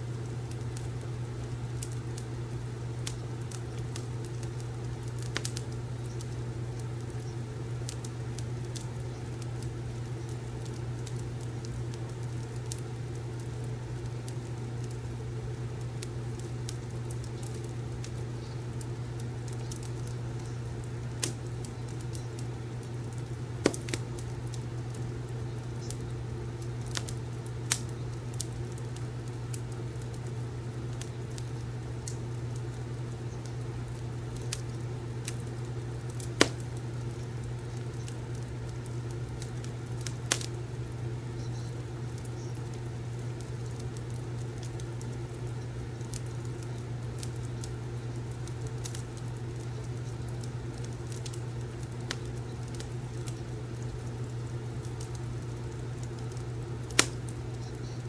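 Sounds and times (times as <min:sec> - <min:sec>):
steady low hum: 0:00.0 - 0:58.0
wood fire crackling: 0:00.0 - 0:58.0.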